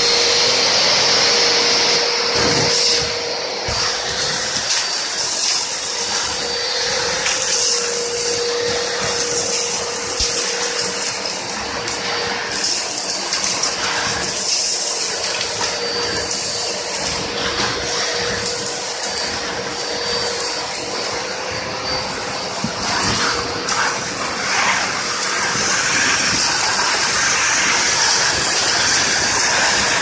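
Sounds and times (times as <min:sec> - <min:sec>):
industrial vacuum cleaner running: 0:00.0 - 0:30.0.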